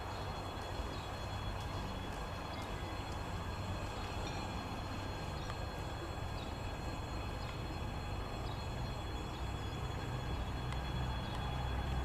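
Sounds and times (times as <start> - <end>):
electric locomotive hum and rumble: 0.0 - 12.0.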